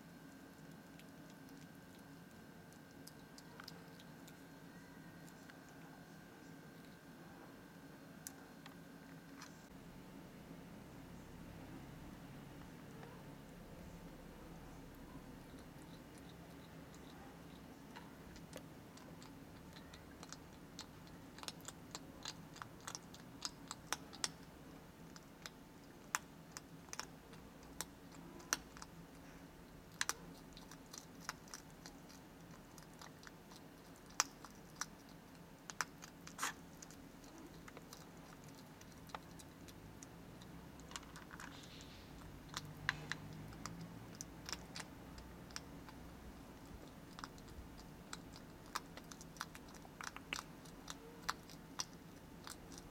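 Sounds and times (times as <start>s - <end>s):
hedgehog crunching kibble: 0.0s - 9.7s, 12.6s - 52.9s.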